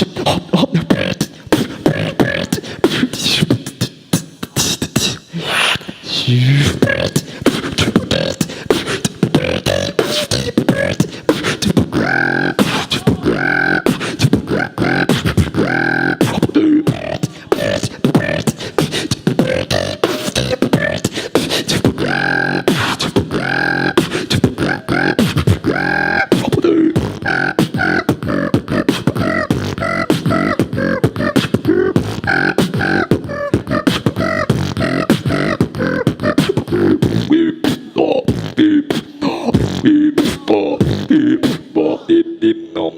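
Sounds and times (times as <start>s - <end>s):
person beatboxing: 0.0s - 42.9s
pitched vocal tones: 0.0s - 42.9s.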